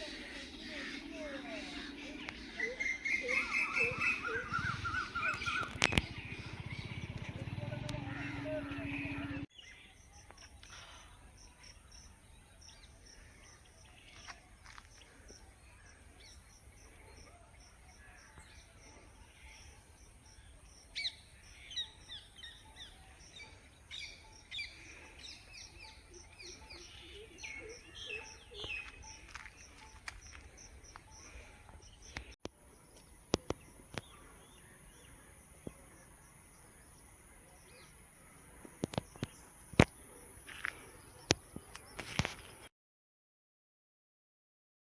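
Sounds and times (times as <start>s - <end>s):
small birds chirping: 0.0s - 42.7s.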